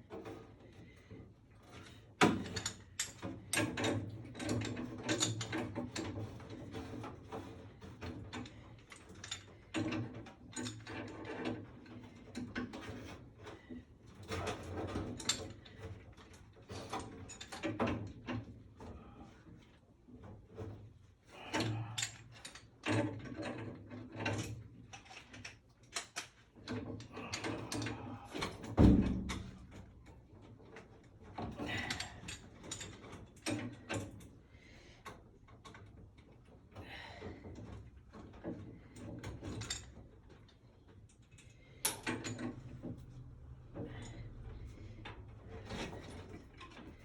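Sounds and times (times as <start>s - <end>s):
tools clicking and clattering: 1.6s - 18.6s, 21.4s - 34.3s, 37.2s - 47.0s.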